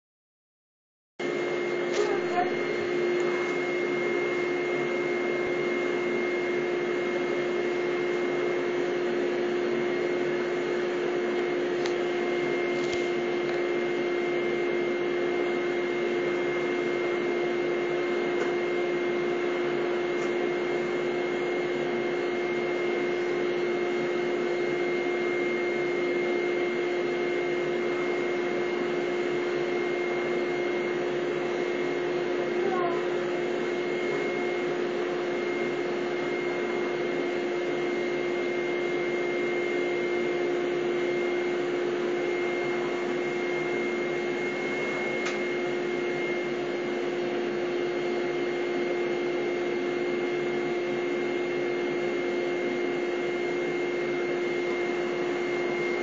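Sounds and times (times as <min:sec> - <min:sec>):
vacuum cleaner running: 0:01.2 - 0:56.0.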